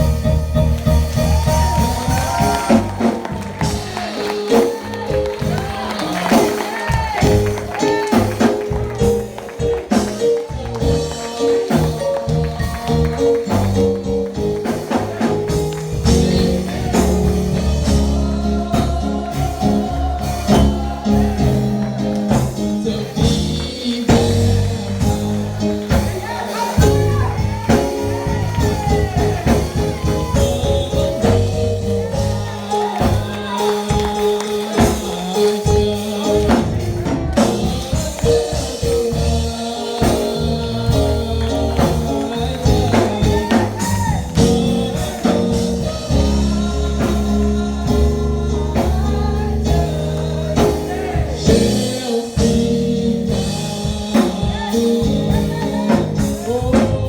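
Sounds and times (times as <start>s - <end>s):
gospel singing with band: 0.0s - 57.0s.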